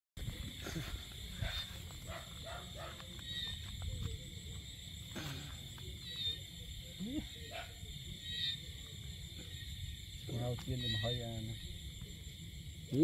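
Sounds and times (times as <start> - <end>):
night insects droning: 0.2 - 13.0.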